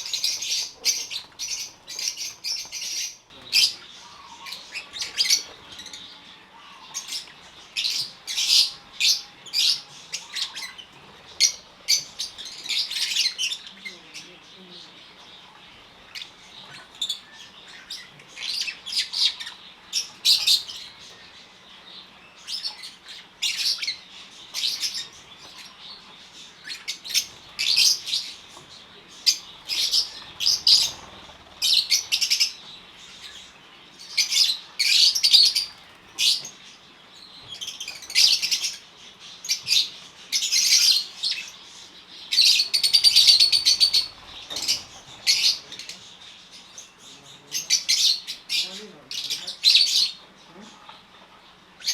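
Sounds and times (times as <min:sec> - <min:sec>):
lovebirds chirping shrilly: 0:00.0 - 0:50.2.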